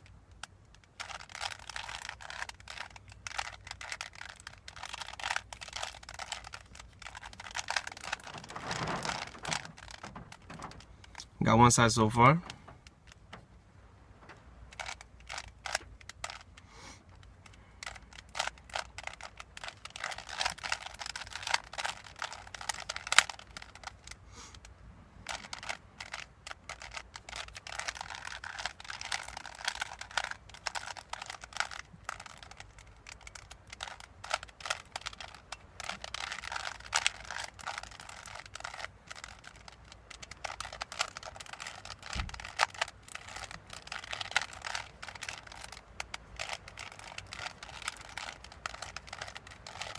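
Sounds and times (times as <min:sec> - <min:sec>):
puzzle cube plastic clicking: 0:00.0 - 0:11.3, 0:14.7 - 0:49.9.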